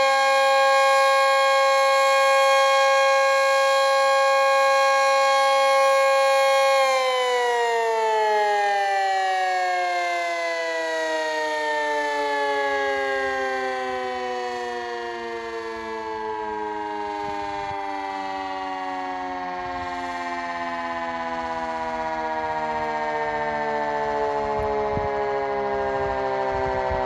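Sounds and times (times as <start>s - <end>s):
siren winding down: 0.0s - 27.0s.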